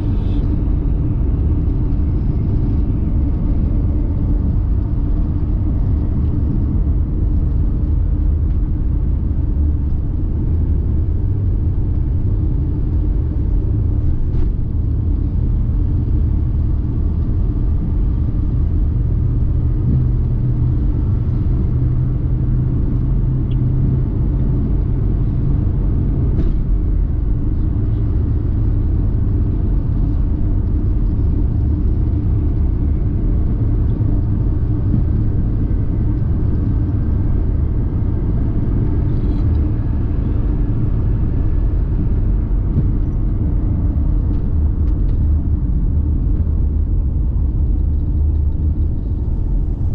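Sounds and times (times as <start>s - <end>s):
steady low hum: 0.0s - 49.9s
vehicle engine and tyre rumble: 0.0s - 49.9s.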